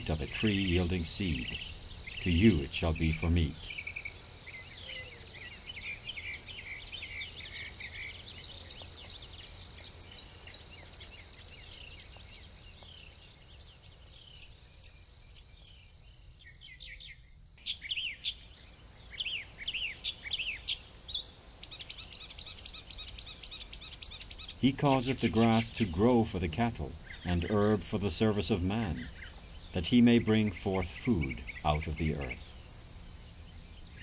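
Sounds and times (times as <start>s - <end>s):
insects trilling: 0.0s - 34.0s
small birds chirping: 0.0s - 34.0s.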